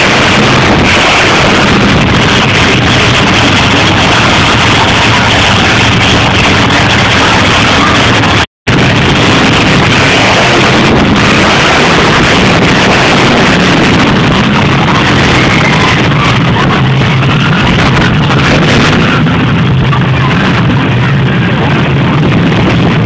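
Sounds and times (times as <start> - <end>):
monster truck engines roaring: 0.0 - 23.0.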